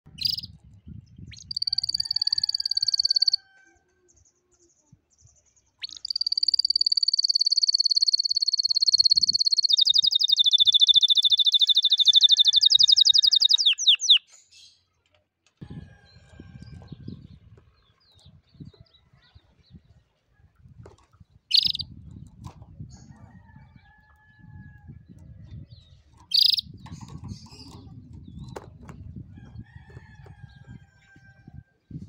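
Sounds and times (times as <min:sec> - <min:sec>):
canary singing in rolling trills: 0:00.1 - 0:03.6, 0:05.2 - 0:14.8, 0:15.8 - 0:32.0.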